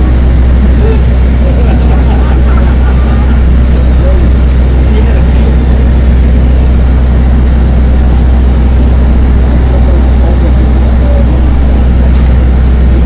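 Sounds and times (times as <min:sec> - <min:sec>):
bus engine low rumble: 0:00.0 - 0:13.0.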